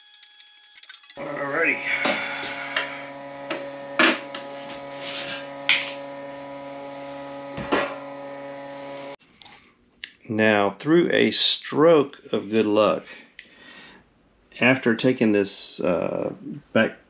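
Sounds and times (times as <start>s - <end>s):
steady electrical hum: 0.4s - 17.0s.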